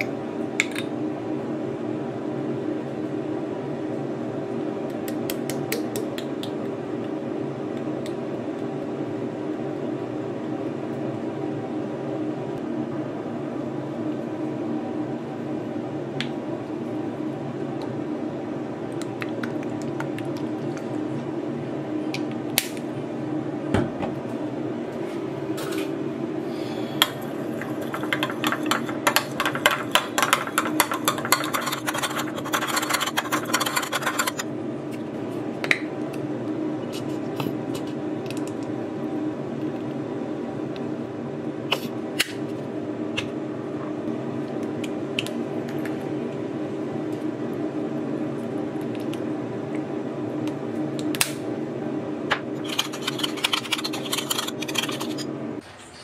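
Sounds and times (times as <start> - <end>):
background hum: 0.0 - 56.0.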